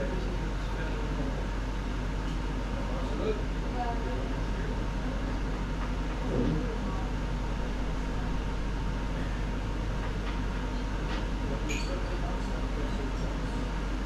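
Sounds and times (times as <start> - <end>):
low appliance hum: 0.0 - 14.0.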